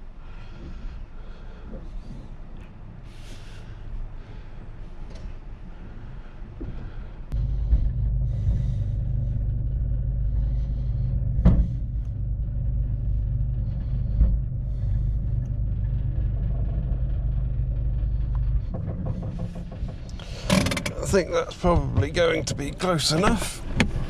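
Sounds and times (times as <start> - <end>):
truck engine rumbling: 0.0 - 24.0.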